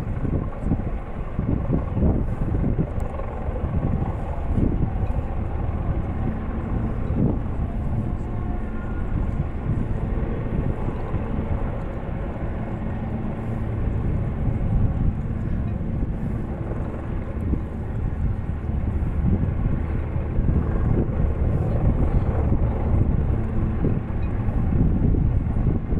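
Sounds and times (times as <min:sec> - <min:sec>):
distant helicopters droning: 0:00.0 - 0:25.9
wind buffeting microphone: 0:00.0 - 0:25.9.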